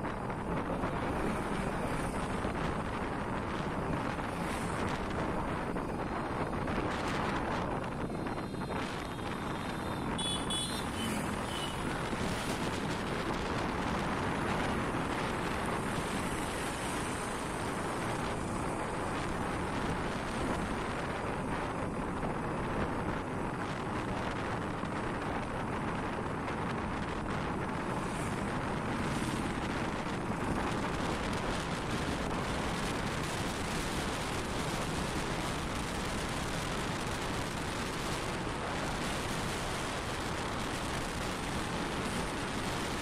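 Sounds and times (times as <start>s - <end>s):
motorcycle road noise: 0.0s - 43.0s
wind rush on microphone: 0.0s - 43.0s.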